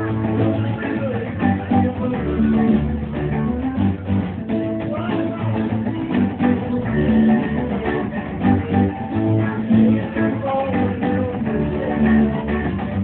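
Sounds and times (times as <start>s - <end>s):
electric guitar: 0.0s - 13.0s
live band playing: 0.0s - 13.0s.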